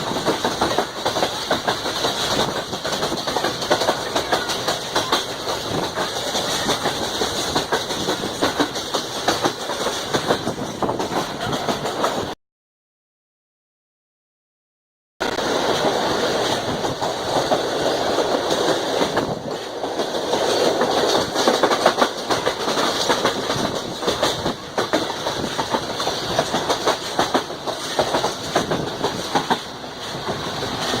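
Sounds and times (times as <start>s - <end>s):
train rumbling: 0.0s - 12.4s, 15.2s - 31.0s
train wheels clattering over rail joints: 0.0s - 12.4s, 15.3s - 31.0s.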